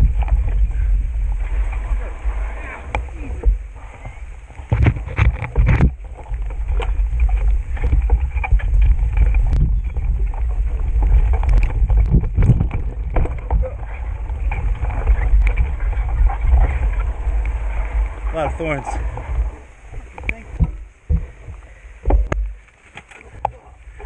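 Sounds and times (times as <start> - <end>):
bicycle rattling on rough trail: 0.0 - 24.0
wind buffeting microphone: 0.0 - 24.0.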